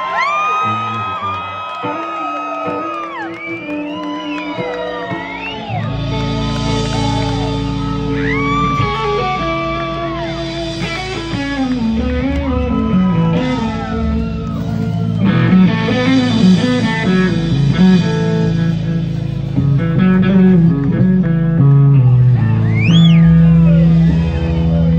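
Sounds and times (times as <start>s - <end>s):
blues band playing: 0.0s - 24.9s
electric guitar lead: 0.0s - 24.9s.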